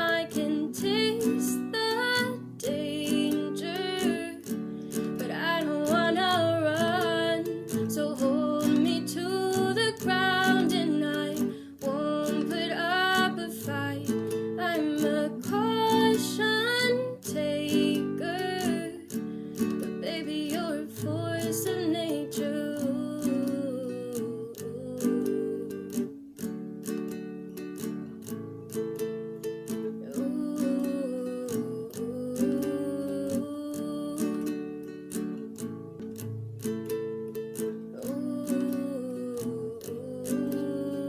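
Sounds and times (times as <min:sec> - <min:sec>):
acoustic guitar strumming chords: 0:00.0 - 0:41.0.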